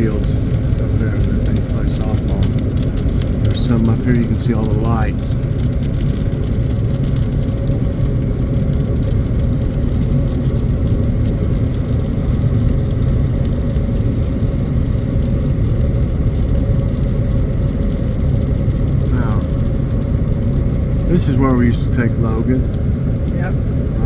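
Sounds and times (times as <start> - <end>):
car cabin road and engine noise: 0.0 - 24.0.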